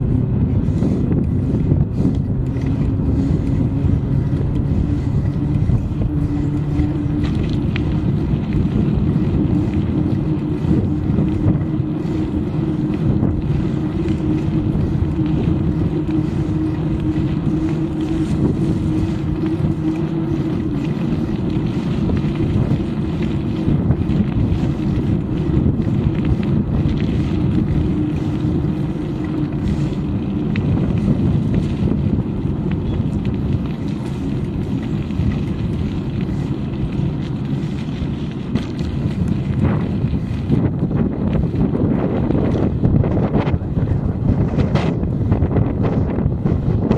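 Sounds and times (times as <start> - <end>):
low hum: 0.0 - 46.9
moving bike rumble: 0.0 - 46.9
wind on microphone: 0.0 - 46.9.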